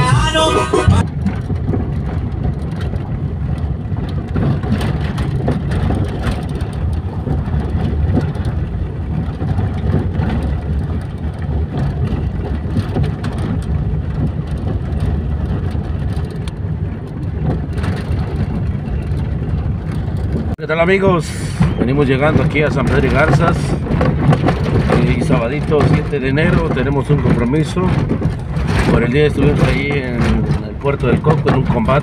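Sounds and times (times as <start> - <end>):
engine and tyres rumbling: 1.0 - 32.0
knocks and rattles over bumps: 1.1 - 32.0.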